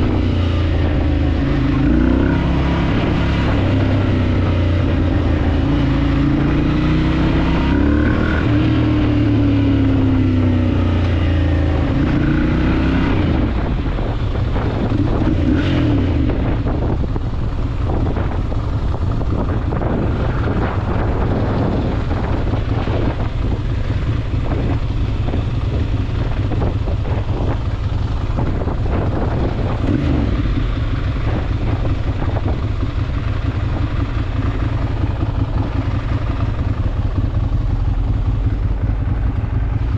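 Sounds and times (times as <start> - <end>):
motorcycle engine revving: 0.0 - 39.9
wind on microphone: 0.0 - 39.9.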